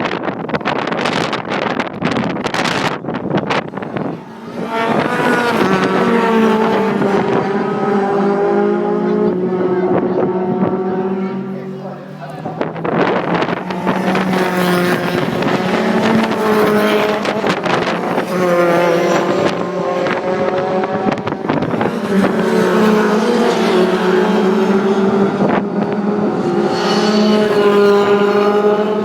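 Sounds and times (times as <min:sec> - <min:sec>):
racing car engines passing: 0:00.1 - 0:29.0.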